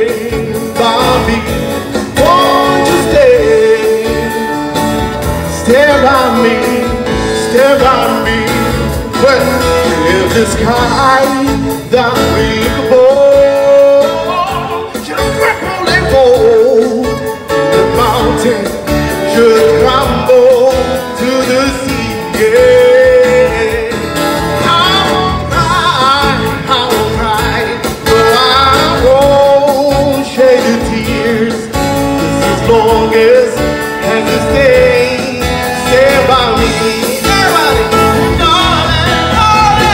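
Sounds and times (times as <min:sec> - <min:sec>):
acoustic guitar: 0:00.0 - 0:39.9
man singing into microphone: 0:00.0 - 0:39.9.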